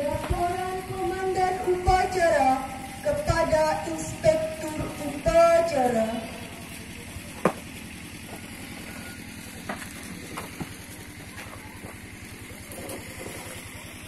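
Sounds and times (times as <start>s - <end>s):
motor idling hum: 0.0s - 14.0s.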